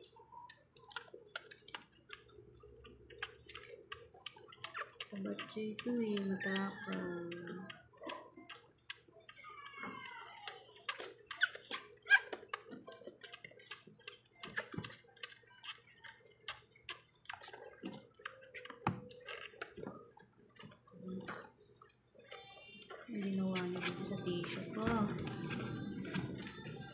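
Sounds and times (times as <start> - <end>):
puppy suckling from syringe: 0.0 - 26.9.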